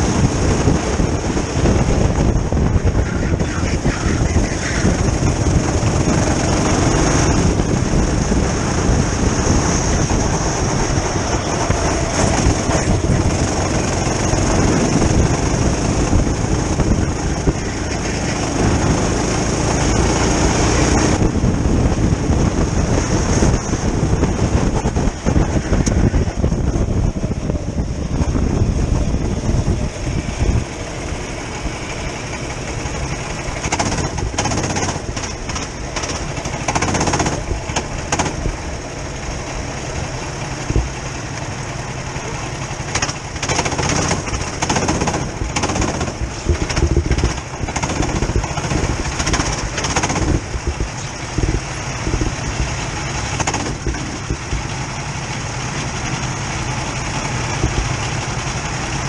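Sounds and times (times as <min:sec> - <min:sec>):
go-kart engine racing: 0:00.0 - 0:59.0
wind on microphone: 0:00.0 - 0:59.0.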